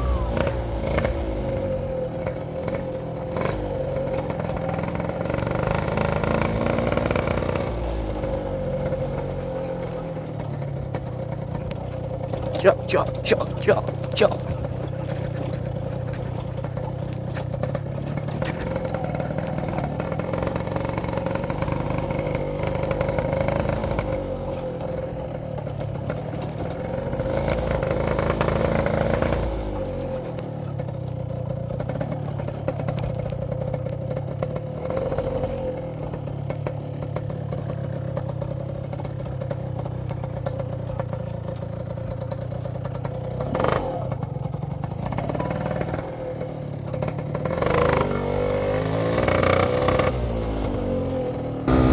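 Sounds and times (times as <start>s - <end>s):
motorcycle two-stroke engine revving: 0.0s - 51.9s.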